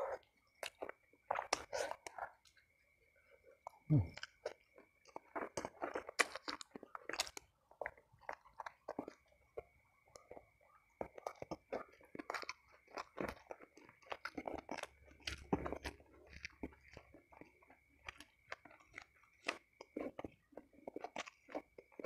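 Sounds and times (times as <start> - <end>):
person chewing food: 0.0 - 22.0
crisp crunches and bites: 0.1 - 2.3, 4.1 - 9.3, 11.0 - 22.0.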